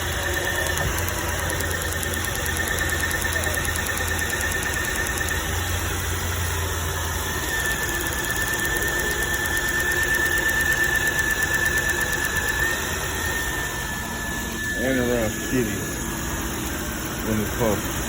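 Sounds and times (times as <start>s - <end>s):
car engine running: 0.0s - 18.0s
high-pitched whine: 0.0s - 18.0s.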